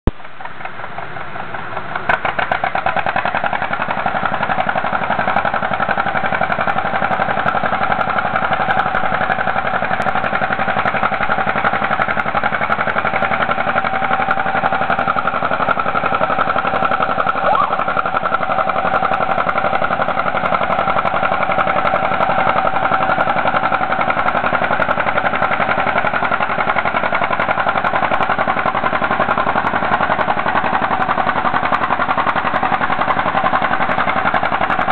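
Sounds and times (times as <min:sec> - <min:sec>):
tractor engine with popping exhaust: 0:00.0 - 0:34.9.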